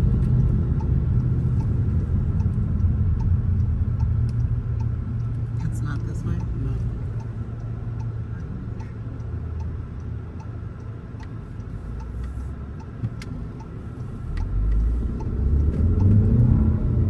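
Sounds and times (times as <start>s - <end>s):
car cabin road and engine rumble: 0.0s - 17.0s
turn signal ticking: 0.0s - 17.0s.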